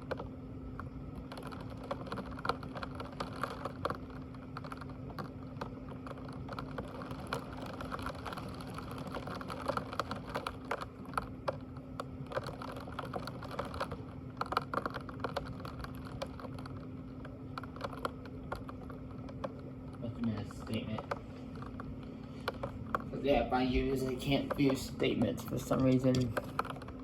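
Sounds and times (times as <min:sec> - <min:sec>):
rapid light clicks and taps: 0:00.0 - 0:27.0
steady low hum: 0:00.0 - 0:27.0.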